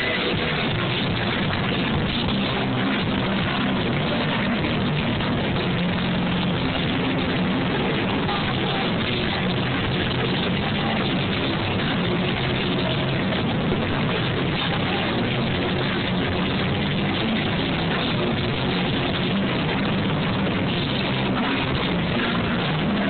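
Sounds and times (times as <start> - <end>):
distorted live rock band: 0.0 - 23.0
low bass notes: 0.0 - 23.0.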